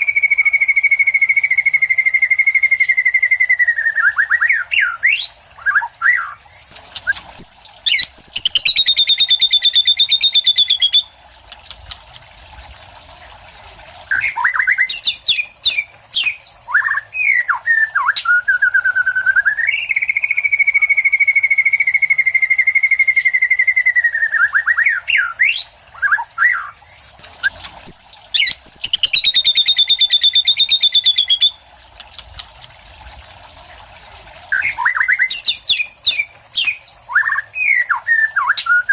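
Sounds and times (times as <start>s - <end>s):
songbird singing varied song: 0.0s - 11.2s, 14.1s - 31.6s, 34.5s - 38.9s.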